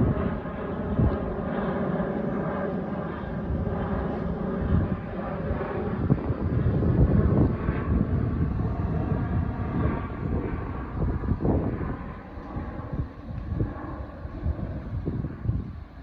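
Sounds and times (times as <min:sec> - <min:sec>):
turboprop propeller drone: 0:00.0 - 0:16.0.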